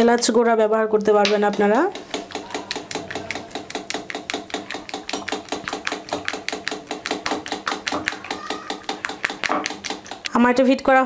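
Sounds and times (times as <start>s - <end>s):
whisk striking bowl: 1.3s - 10.6s.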